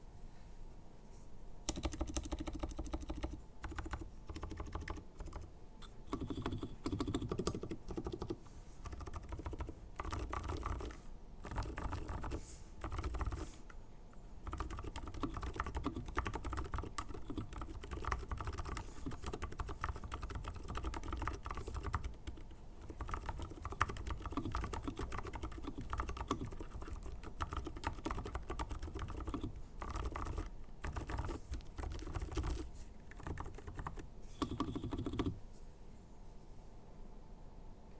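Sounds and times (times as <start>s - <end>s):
mechanical keyboard typing: 1.7s - 13.6s, 14.4s - 35.4s.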